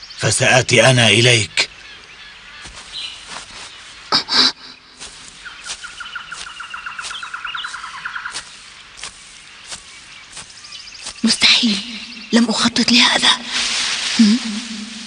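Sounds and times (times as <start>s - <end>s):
birdsong: 0.0s - 15.0s
footsteps on grass: 2.1s - 15.0s.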